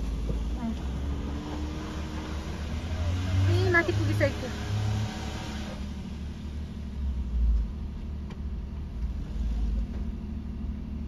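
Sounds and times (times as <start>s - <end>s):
car engine straining: 0.0s - 11.0s
road rumble: 0.0s - 11.0s.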